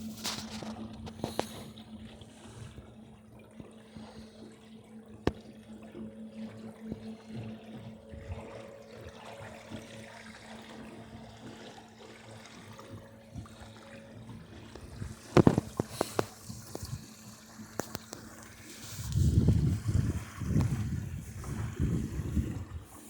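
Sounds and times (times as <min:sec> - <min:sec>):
water lapping against boat hull: 0:00.0 - 0:23.0.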